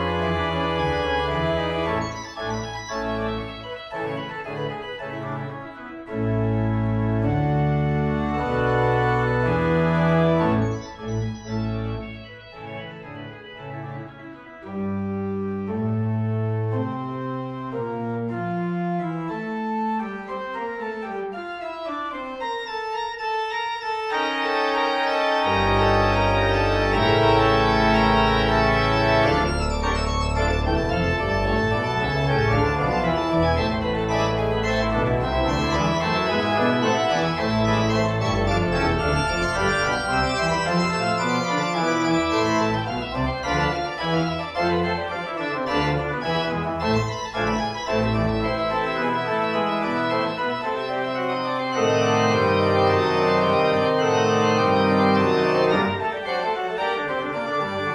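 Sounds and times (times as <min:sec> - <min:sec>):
deep organ bass notes: 0:00.0 - 0:57.9
organ chords: 0:00.0 - 0:57.9.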